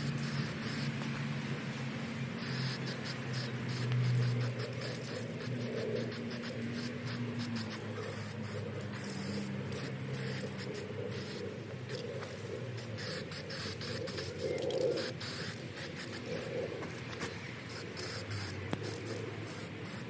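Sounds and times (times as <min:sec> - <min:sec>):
steady low hum: 0:00.0 - 0:20.0
rapid scratching on a surface: 0:02.4 - 0:20.0.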